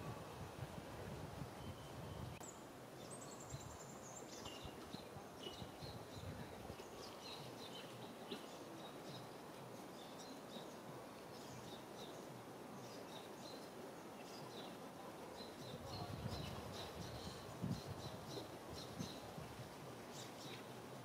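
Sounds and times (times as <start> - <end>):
steady low hiss: 0.0 - 21.0
small birds chirping: 1.6 - 21.0.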